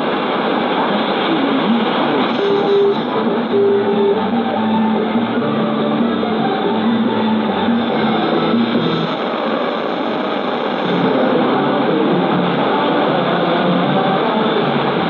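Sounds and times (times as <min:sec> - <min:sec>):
music on am radio: 0:00.0 - 0:15.0
radio band noise hiss: 0:00.0 - 0:15.0.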